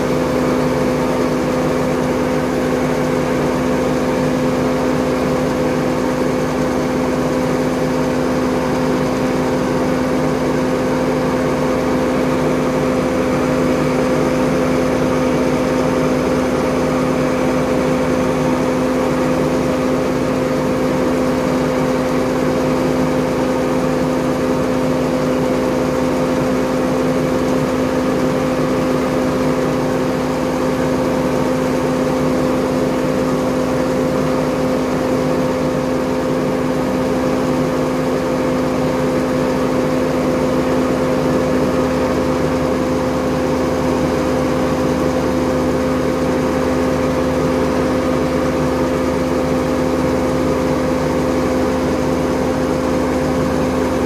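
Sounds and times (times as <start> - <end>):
grain auger mechanical drone: 0.0 - 54.0.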